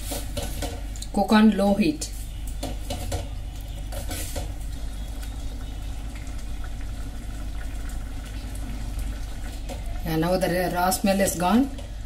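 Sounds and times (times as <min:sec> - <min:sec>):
thick liquid bubbling in a pan: 0:02.1 - 0:12.0.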